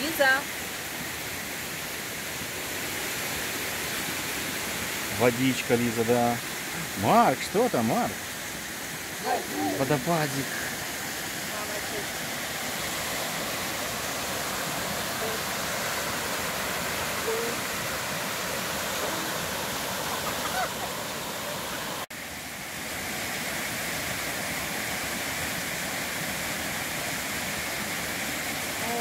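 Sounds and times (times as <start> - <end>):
stream over stones: 0.0 - 29.0
waterfall rushing: 0.0 - 29.0.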